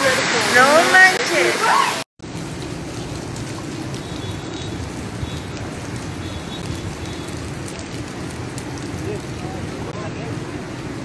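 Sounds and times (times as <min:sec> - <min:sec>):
floodwater rushing along street: 0:00.0 - 0:11.0
heavy rain: 0:00.0 - 0:11.0.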